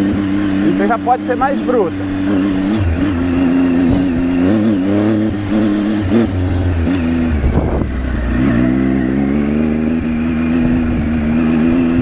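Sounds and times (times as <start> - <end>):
motorcycle engine pulling: 0.0 - 12.0.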